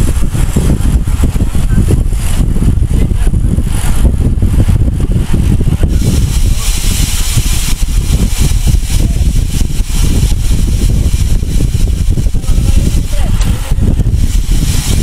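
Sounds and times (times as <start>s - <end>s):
hiss of rushing air: 0.0s - 15.0s
wind buffeting microphone: 0.0s - 15.0s.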